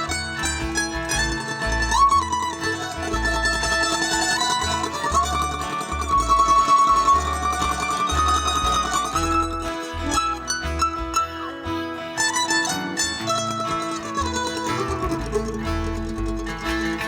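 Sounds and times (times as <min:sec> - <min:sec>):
acoustic guitar: 0:00.0 - 0:17.0
plucked mandolin: 0:00.0 - 0:17.0
stepped bass notes: 0:00.0 - 0:17.0.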